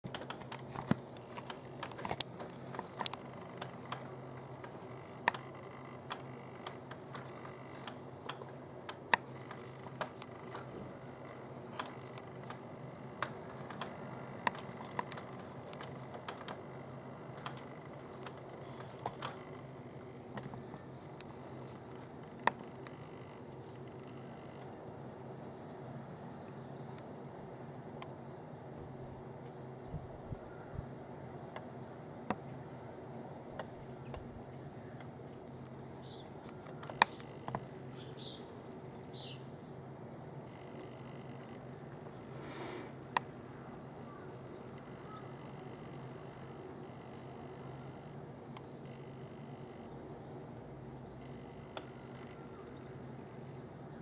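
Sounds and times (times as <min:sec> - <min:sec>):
faint low hum: 0:00.1 - 0:54.0.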